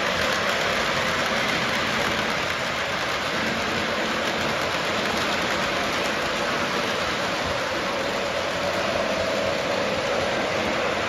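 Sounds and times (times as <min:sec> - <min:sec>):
model train wheels rolling on track: 0:00.0 - 0:11.0.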